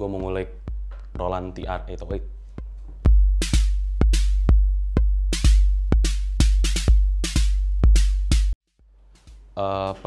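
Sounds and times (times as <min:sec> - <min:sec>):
drum machine bass drum: 0:00.0 - 0:10.0
drum machine snare and hi-hat: 0:00.0 - 0:10.0.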